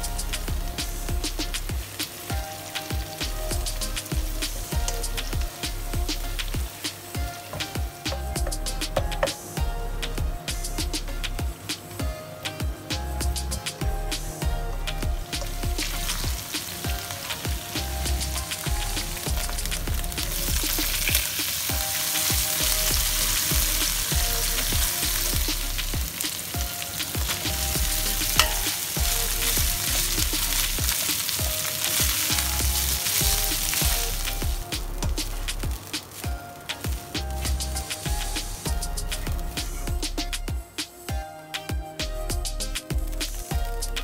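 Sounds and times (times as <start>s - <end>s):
hot oil sizzling in a wok: 0.0s - 41.2s.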